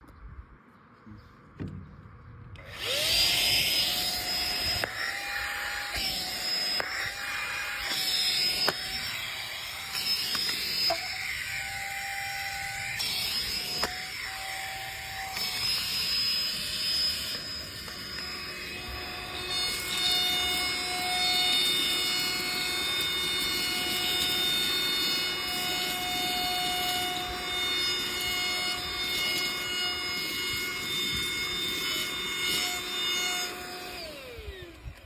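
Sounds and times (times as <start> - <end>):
vacuum cleaner motor whine: 2.6 - 35.0.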